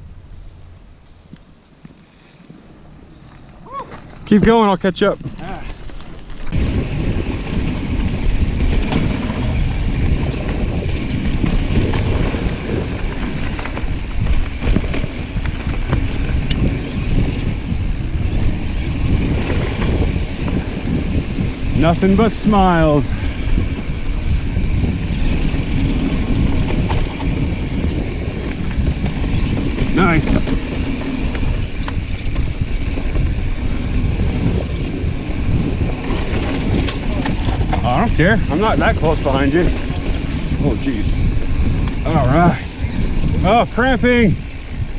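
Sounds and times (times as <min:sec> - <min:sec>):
wind buffeting microphone: 0:00.0 - 0:44.9
tyres rumbling on dirt: 0:02.5 - 0:44.9
bike clicks and rattles: 0:03.2 - 0:44.9.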